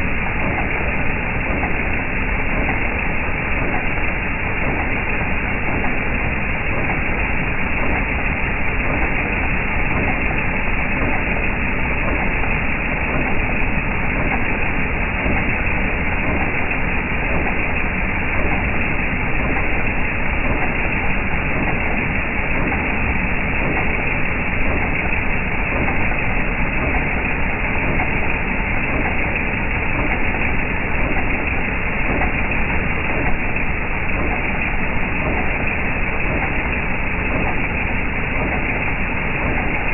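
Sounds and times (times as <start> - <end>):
engine knocking: 0.0 - 39.9.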